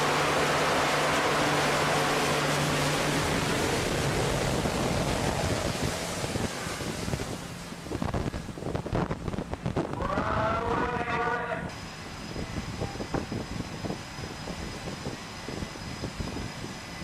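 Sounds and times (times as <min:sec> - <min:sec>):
jet engines rushing: 0:00.0 - 0:17.0
low hum: 0:00.0 - 0:17.0.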